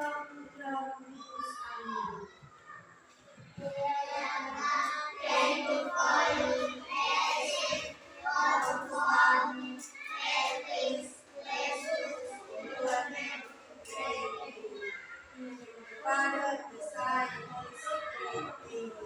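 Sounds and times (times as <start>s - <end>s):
children singing in unison: 3.4s - 19.0s.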